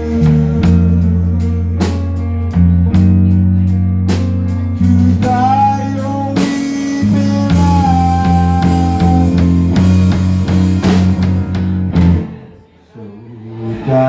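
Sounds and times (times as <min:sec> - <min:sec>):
band playing slow blues: 0:00.0 - 0:12.5.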